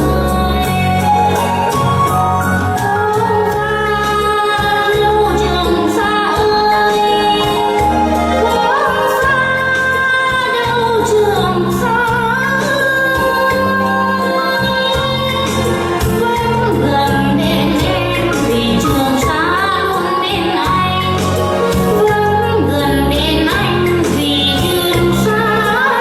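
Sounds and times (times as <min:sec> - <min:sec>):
woman singing slow song: 0:00.0 - 0:01.8, 0:02.6 - 0:26.0
band accompaniment: 0:00.0 - 0:26.0
steady bass line: 0:00.0 - 0:26.0.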